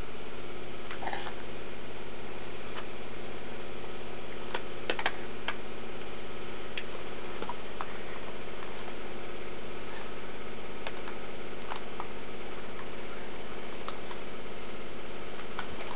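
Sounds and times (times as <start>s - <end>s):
steady hum: 0.0s - 15.9s.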